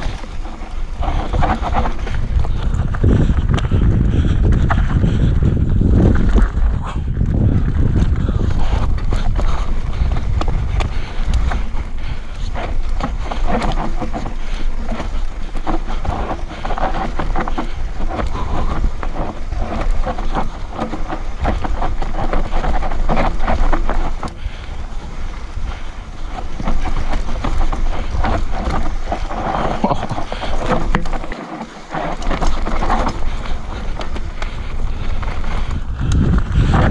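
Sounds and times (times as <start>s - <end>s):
bike chain and frame rattling: 0.0s - 36.9s
bike tyres over dirt and stones: 0.0s - 36.9s
wind rumble on microphone: 0.0s - 36.9s.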